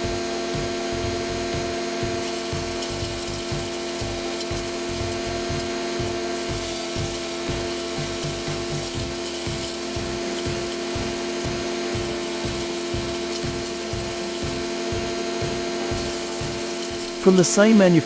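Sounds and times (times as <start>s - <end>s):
chipper cutters knocking: 0.0s - 18.0s
wood chipper running: 0.0s - 18.0s.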